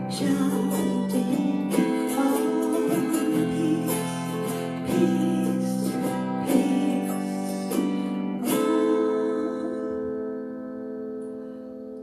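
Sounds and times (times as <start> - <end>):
slow acoustic guitar music: 0.0 - 12.0.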